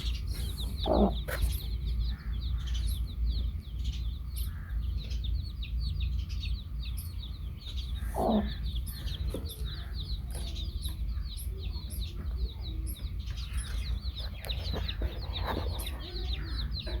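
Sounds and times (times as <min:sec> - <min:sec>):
baby chicks peeping: 0:00.0 - 0:17.0
hen clucking: 0:00.0 - 0:17.0.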